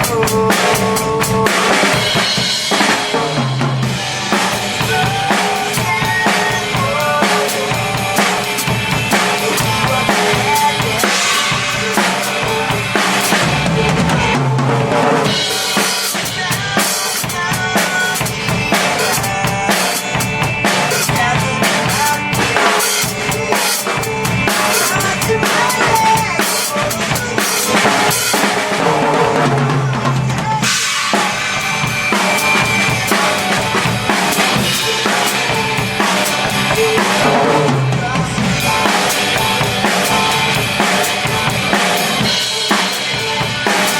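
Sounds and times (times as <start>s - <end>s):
drum kit beat: 0.0s - 43.9s
rock band backing track: 0.0s - 43.9s.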